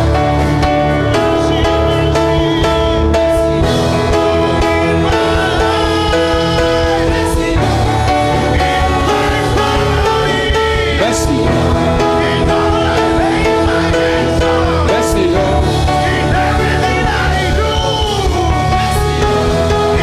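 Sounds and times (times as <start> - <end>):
gospel choir singing: 0.0 - 20.0.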